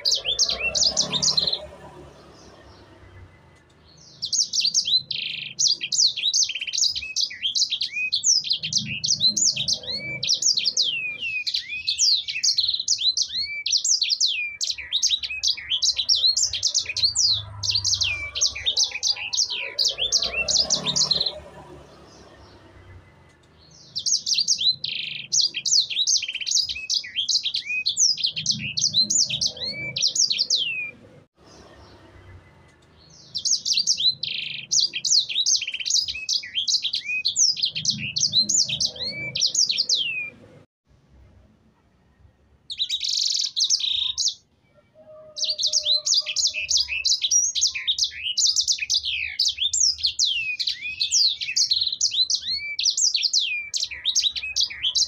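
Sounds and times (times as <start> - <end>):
songbird chirping and whistling: 0.0 - 21.5, 22.3 - 31.0, 31.6 - 40.4, 42.7 - 55.0.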